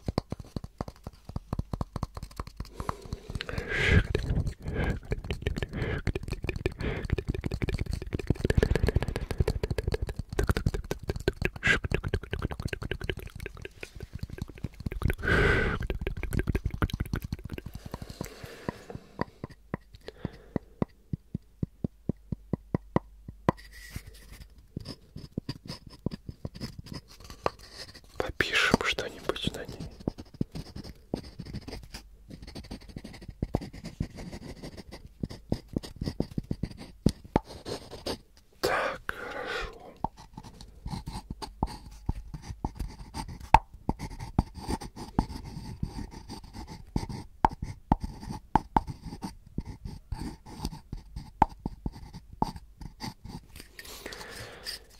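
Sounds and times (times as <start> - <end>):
rubbing on wooden cup: 0.0 - 20.0, 23.5 - 38.8, 39.6 - 54.9
wooden stick scratching wooden bowl: 0.0 - 20.1, 23.5 - 38.9, 39.7 - 54.9
fingers tapping on wooden cup: 0.0 - 23.7, 24.8 - 38.8, 40.0 - 53.4.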